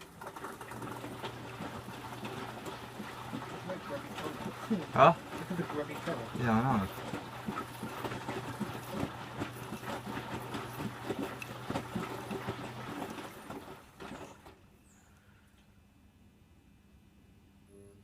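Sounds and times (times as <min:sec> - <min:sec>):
water sloshing in drum: 0:00.0 - 0:14.6
washing machine motor hum: 0:00.0 - 0:15.0.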